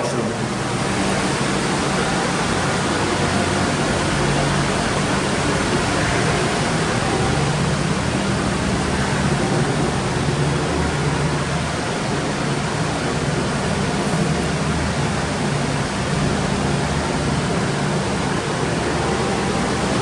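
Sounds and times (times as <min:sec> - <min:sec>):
low hum: 0:00.0 - 0:20.0
steady rushing noise: 0:00.0 - 0:20.0.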